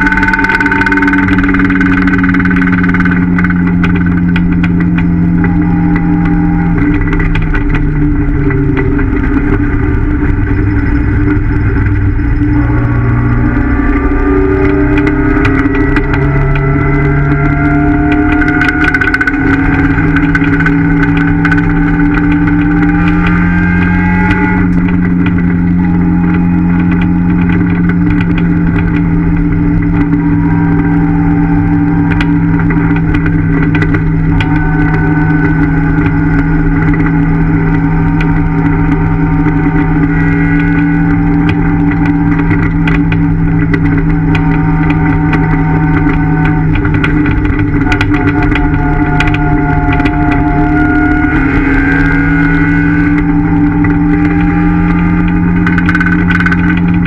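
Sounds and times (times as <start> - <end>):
car engine running steadily: 0.0 - 57.0.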